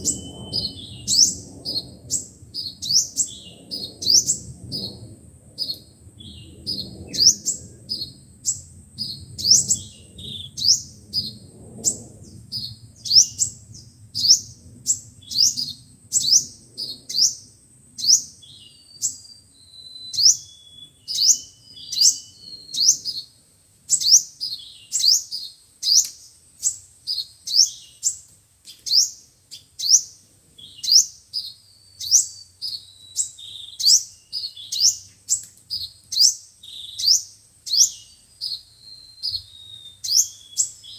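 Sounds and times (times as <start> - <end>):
sunbirds calling: 0.0 - 40.9.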